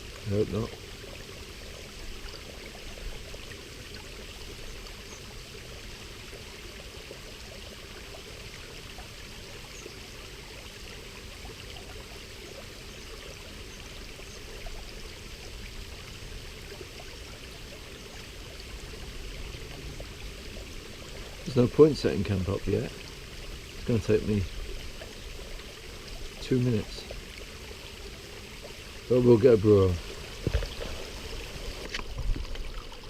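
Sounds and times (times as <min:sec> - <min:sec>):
waterfall and stream rushing: 0:00.0 - 0:33.0.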